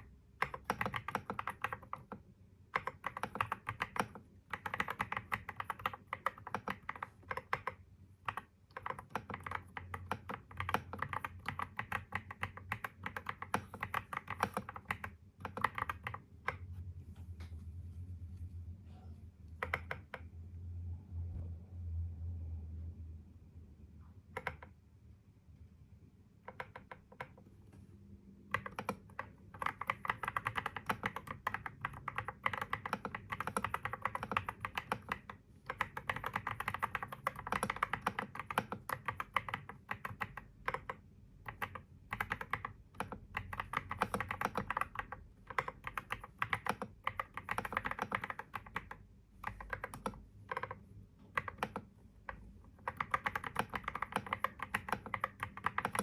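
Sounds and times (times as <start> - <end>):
computer keyboard typing: 0.0 - 16.7, 19.6 - 20.3, 24.4 - 24.8, 26.4 - 27.5, 28.5 - 56.0.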